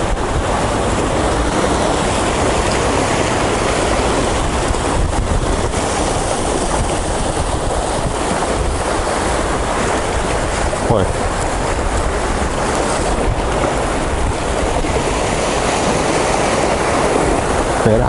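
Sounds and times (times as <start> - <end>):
surf breaking against rocks: 0.0 - 18.0
wind buffeting microphone: 0.0 - 18.0.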